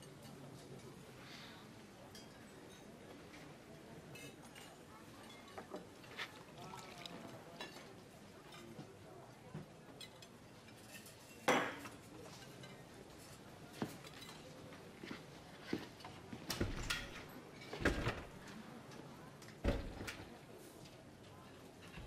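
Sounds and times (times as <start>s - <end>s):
murmur of voices: 0.0s - 22.0s.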